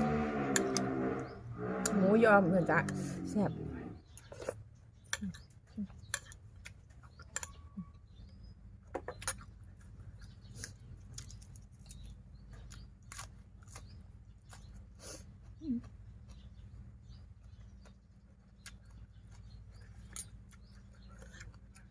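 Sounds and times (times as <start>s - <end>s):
crunchy chewing: 0.0s - 2.0s, 2.6s - 21.9s.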